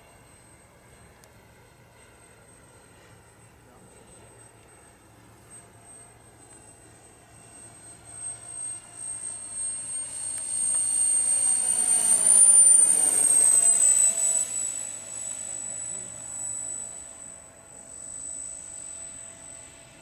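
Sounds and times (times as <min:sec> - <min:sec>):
electric ducted fan whining: 0:00.0 - 0:20.0.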